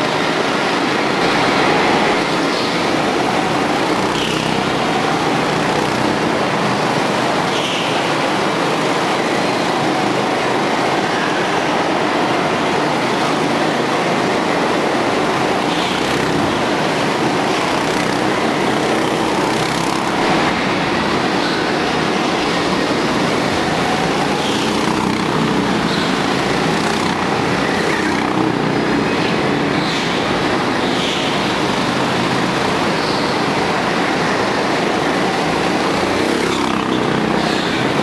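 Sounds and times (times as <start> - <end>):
go-kart engines running: 0.0 - 38.0.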